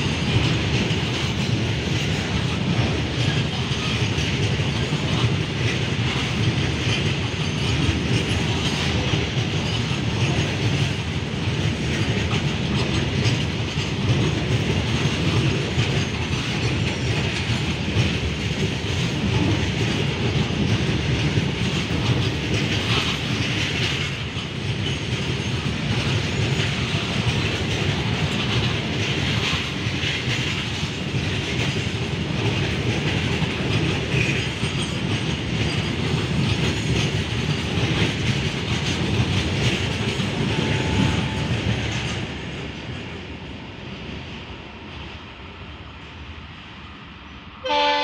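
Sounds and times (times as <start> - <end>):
train wheels clattering over rails: 0.0 - 44.0.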